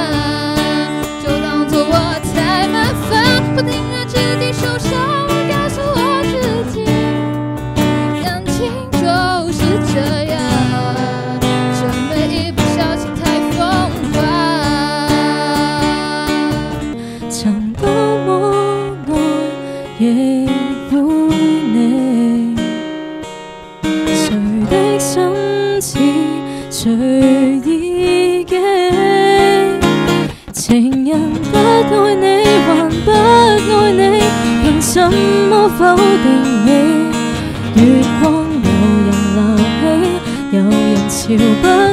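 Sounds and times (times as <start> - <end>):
woman singing pop into microphone: 0.0 - 7.2, 8.0 - 22.7, 24.1 - 41.9
strummed acoustic guitar: 0.0 - 41.9.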